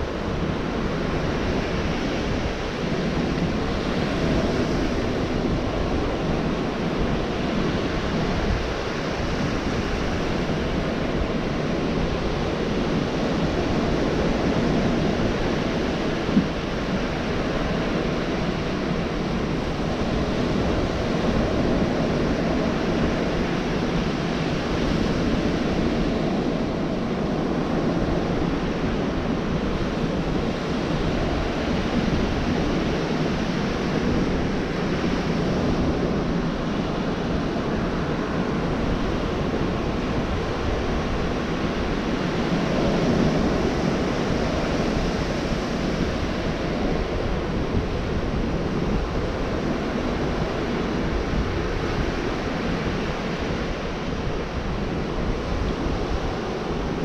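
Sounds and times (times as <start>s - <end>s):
surf washing on a beach: 0.0s - 57.0s.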